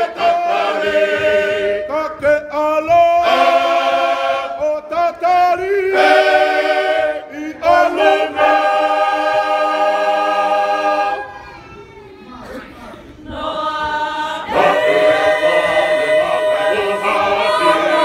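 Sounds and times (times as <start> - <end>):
church choir singing a cappella: 0.0 - 11.5, 13.2 - 18.0.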